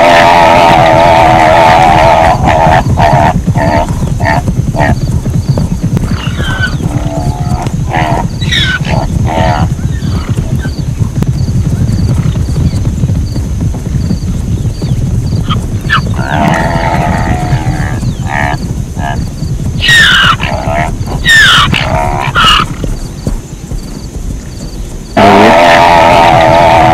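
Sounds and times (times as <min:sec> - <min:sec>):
zebras braying: 0:00.0 - 0:05.2, 0:05.9 - 0:11.0, 0:14.8 - 0:26.9
steady low rumble: 0:01.0 - 0:25.4.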